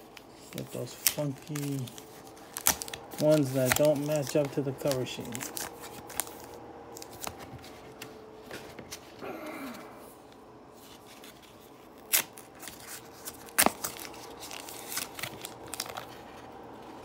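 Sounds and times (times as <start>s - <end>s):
foil wrappers crinkling: 0.0s - 9.1s, 10.7s - 17.0s.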